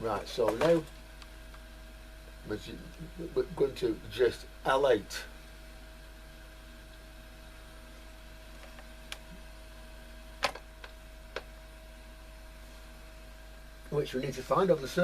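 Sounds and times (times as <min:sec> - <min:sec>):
faint steady hum and hiss: 0:00.0 - 0:15.0.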